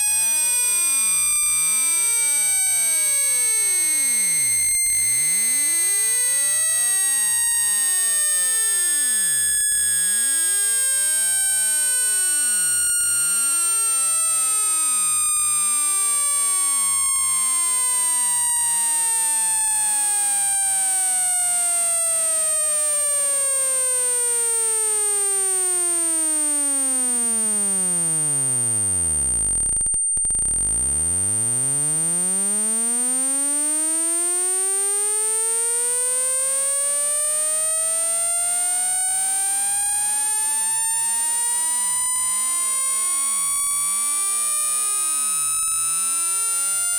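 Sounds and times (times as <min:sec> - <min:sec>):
steady high-pitched whine: 0:00.0 - 0:25.8, 0:27.2 - 0:31.8, 0:33.1 - 0:46.9.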